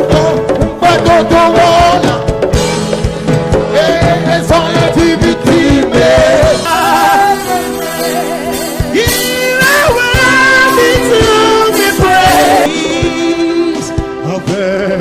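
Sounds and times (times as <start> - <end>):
drums keeping steady beat: 0.0 - 15.0
worship band playing upbeat song: 0.0 - 15.0.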